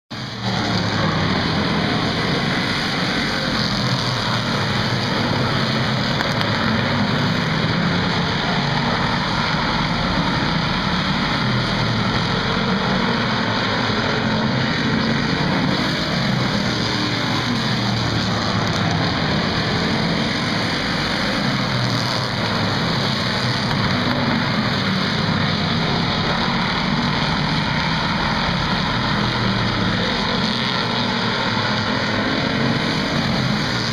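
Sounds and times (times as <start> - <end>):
stock car engines racing: 0.1 - 33.9.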